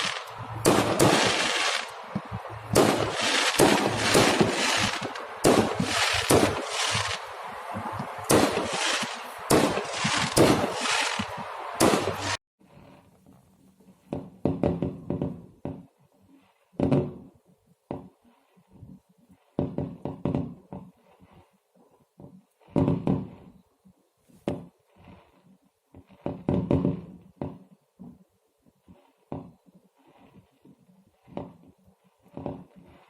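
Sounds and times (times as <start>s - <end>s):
fireworks bangs and crackles: 0.0s - 23.6s, 24.4s - 33.0s.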